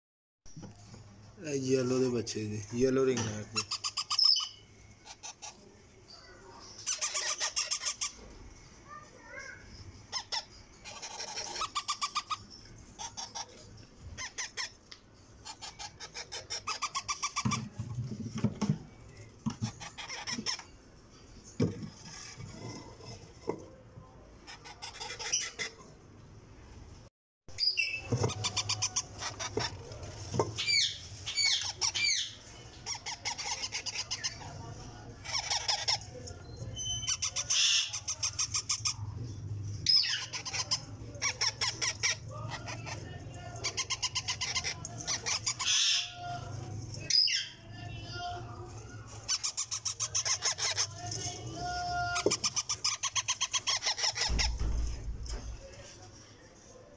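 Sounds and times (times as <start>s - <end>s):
parakeet chicks squeaking: 1.4s - 26.0s, 27.5s - 55.8s.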